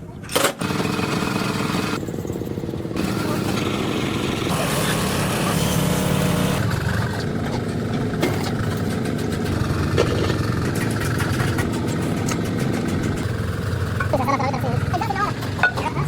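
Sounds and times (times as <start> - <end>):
engine idling: 0.6 - 16.0.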